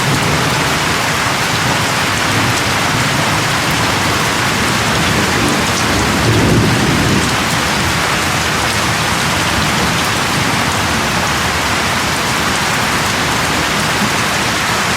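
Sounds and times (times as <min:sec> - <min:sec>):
thunder rumble: 0:00.0 - 0:14.5
heavy rain: 0:00.0 - 0:14.9.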